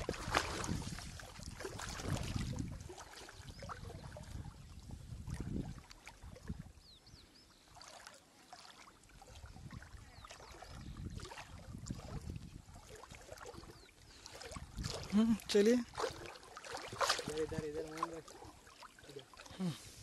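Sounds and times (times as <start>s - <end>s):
people wading through water: 0.0s - 20.0s.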